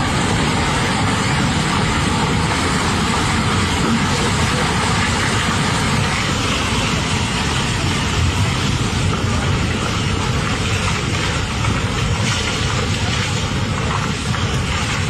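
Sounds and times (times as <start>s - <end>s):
rushing floodwater roar: 0.0s - 15.0s.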